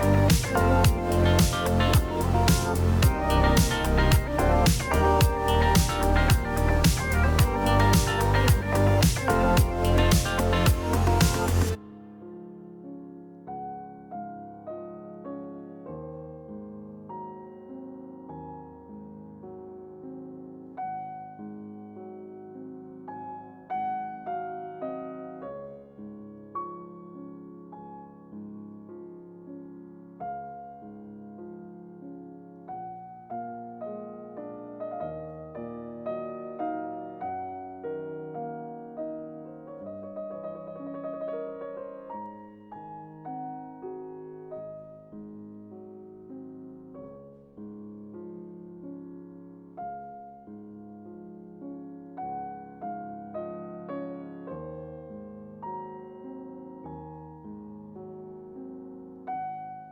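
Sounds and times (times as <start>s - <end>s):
soft piano melody: 0.0s - 59.9s.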